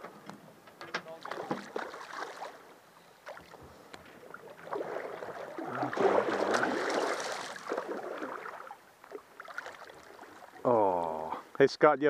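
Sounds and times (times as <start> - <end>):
water splashing and sloshing: 0.3 - 10.8.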